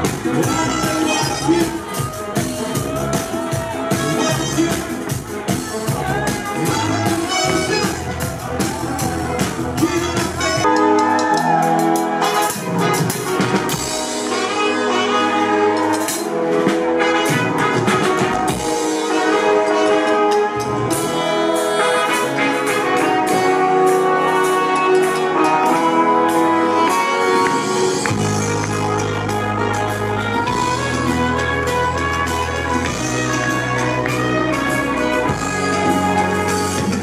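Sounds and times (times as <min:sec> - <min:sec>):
brass instruments playing: 0:00.0 - 0:37.0.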